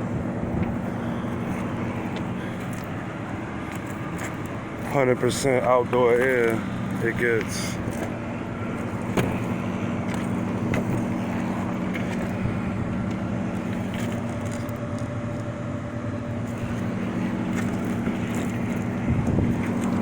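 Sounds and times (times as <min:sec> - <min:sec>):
hvac machinery humming: 0:00.0 - 0:20.0.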